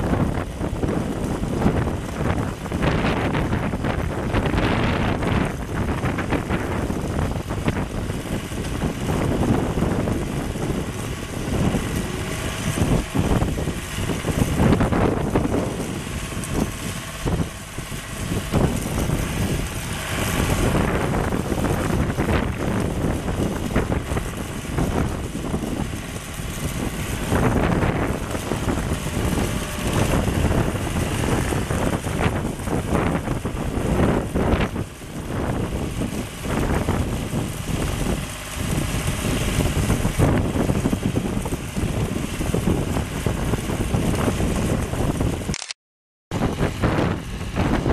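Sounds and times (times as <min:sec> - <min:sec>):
diesel engine running: 0:00.0 - 0:45.5, 0:46.3 - 0:47.9
wind buffeting microphone: 0:00.0 - 0:45.6, 0:46.3 - 0:47.9.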